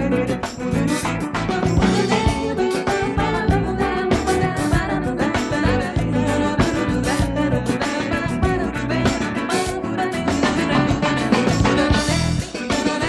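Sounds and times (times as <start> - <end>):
latin band music with steady beat: 0.0 - 13.0.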